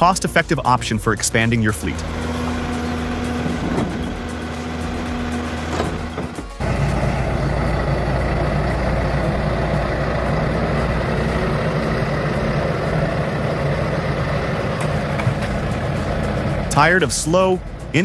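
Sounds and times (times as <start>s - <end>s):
heavy machine engine droning: 1.4s - 18.0s.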